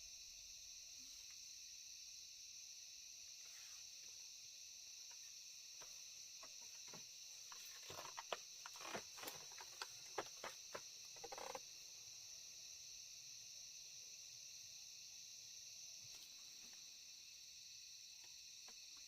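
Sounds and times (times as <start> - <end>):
high-pitched chorus of crickets: 0.0 - 19.0.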